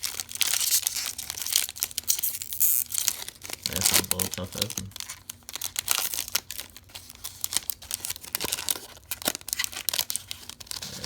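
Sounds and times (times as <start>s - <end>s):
wrapper tearing and crinkling: 0.0s - 11.0s.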